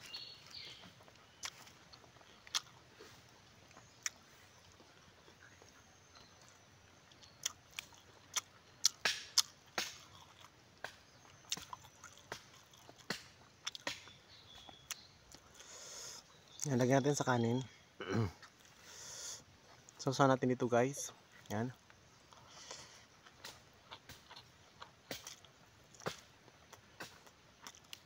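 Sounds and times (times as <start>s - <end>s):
wet chewing smacks and clicks: 0.4s - 16.8s, 21.3s - 28.0s.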